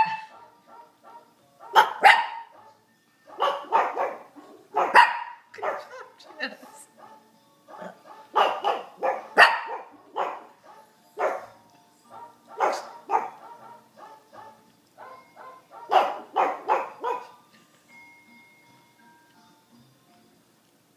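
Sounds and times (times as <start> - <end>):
dogs barking: 0.0 - 17.4.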